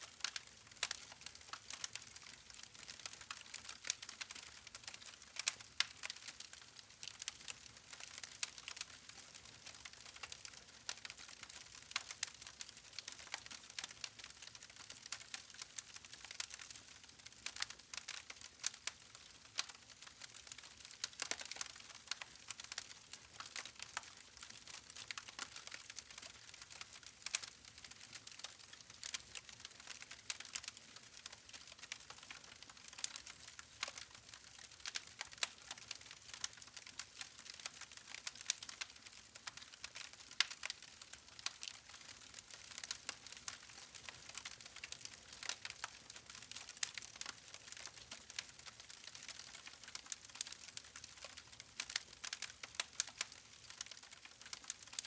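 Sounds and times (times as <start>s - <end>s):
campfire crackling and popping: 0.2s - 55.0s.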